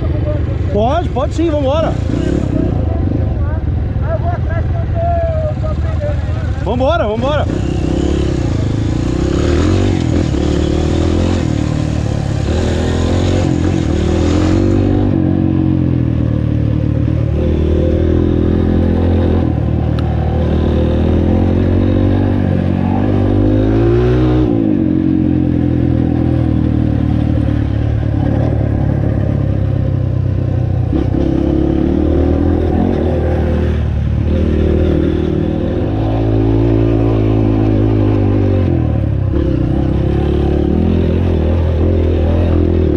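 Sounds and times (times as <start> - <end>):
dirt bike engine revving: 0.7 - 4.1, 5.8 - 42.9.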